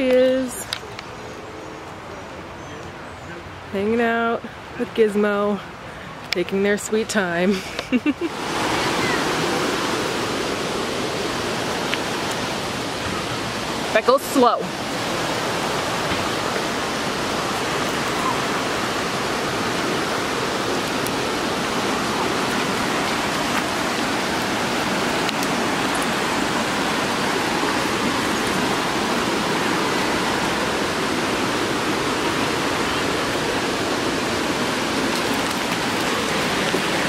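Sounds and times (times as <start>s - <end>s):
rushing water: 0.0s - 37.0s.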